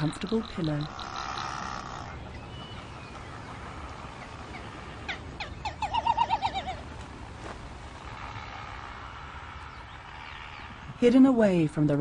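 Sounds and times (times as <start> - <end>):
bird warbling calls: 0.0 - 6.9, 7.9 - 11.5.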